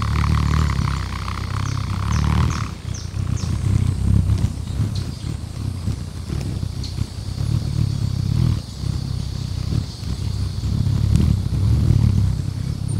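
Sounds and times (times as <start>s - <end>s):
high bird ticks: 0.0s - 12.9s
hummingbird wings buzzing: 0.0s - 12.9s.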